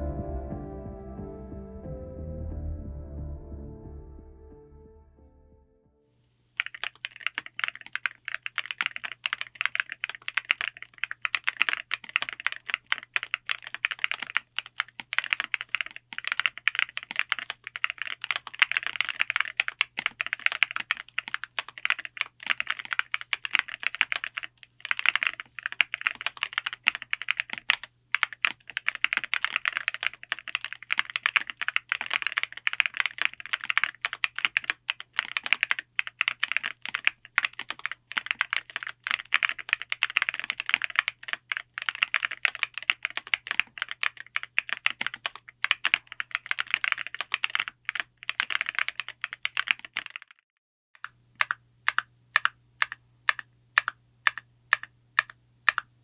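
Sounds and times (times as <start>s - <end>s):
typing on mechanical keyboard: 6.6s - 50.4s, 51.0s - 55.9s.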